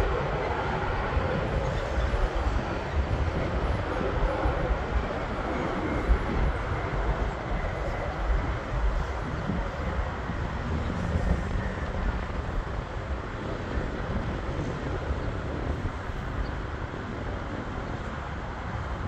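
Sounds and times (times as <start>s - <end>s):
jet taking off: 0.0s - 18.6s.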